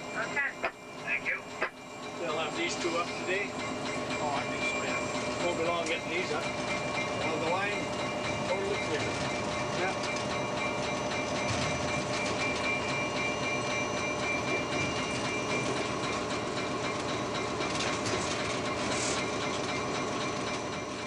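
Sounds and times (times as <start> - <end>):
diesel locomotive drone: 0.0 - 21.0.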